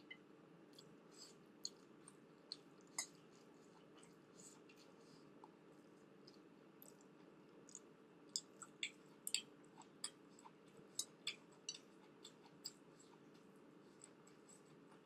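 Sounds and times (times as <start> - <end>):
chewing crunchy broccoli: 0.6 - 15.0.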